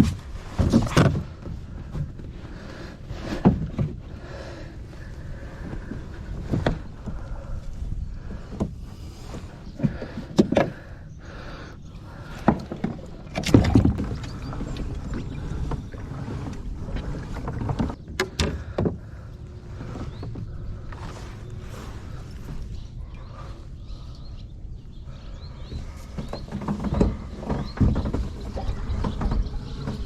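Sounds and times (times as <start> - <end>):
steady low rumble: 1.2 - 26.4.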